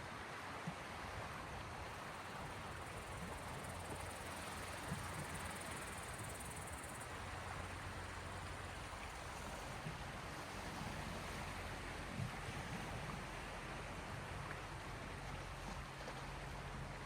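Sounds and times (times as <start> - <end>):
gentle waves washing on shore: 0.0 - 17.0.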